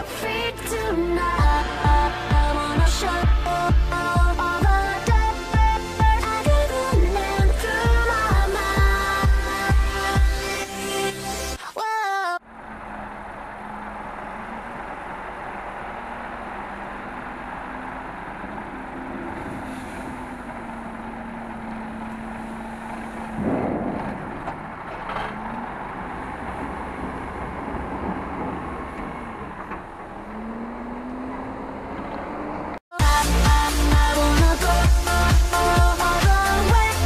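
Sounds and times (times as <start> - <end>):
truck diesel engine running: 0.0 - 11.5, 12.4 - 37.0.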